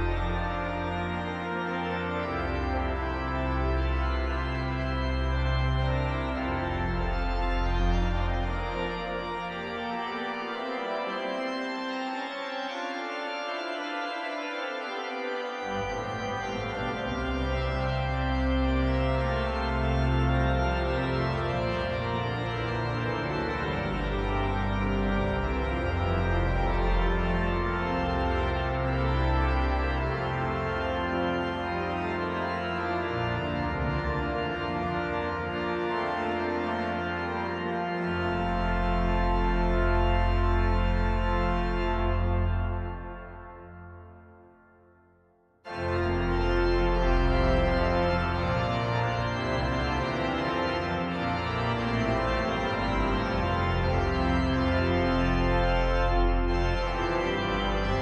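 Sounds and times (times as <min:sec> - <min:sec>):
pipe organ chords: 0:00.0 - 0:58.0.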